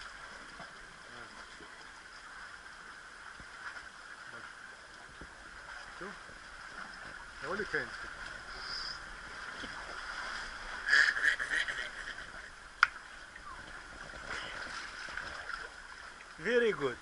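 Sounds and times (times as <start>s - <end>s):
sea water lapping on rocks: 0.0s - 17.0s.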